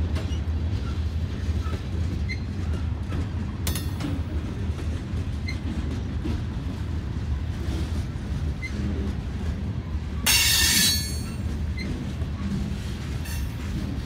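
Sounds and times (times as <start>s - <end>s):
rumble of train wheels on rail: 0.0s - 14.0s.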